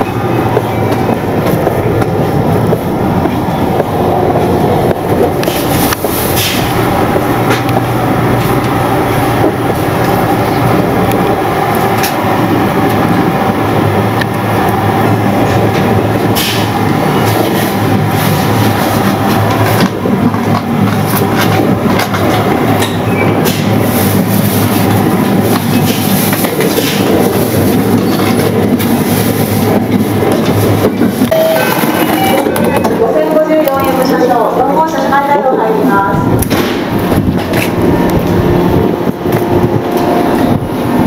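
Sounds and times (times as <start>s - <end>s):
wheels rumbling on rail: 0.0s - 41.0s.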